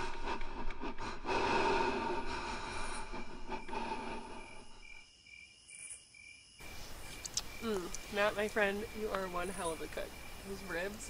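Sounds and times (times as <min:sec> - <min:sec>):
crickets chirping: 0:01.2 - 0:11.0.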